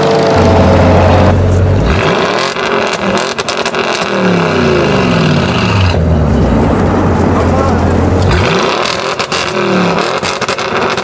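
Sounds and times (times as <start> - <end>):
car engine revving: 0.0 - 11.0
car engine steady note: 0.0 - 11.0.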